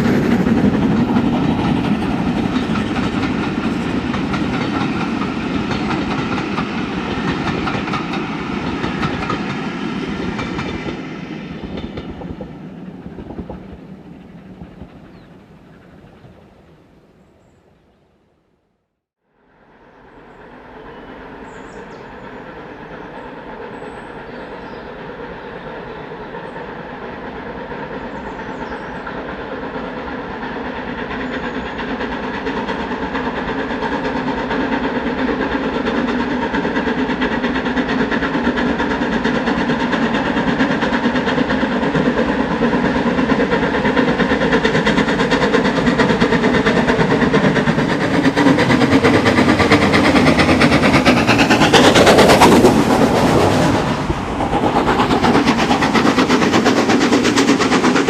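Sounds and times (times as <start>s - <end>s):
steam locomotive exhaust beats: 0.0s - 17.1s, 19.4s - 58.0s.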